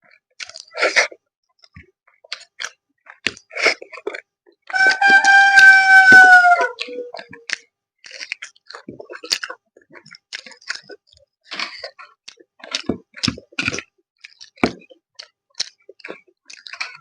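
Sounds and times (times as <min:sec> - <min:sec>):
person chewing and biting food: 0:00.4 - 0:17.0.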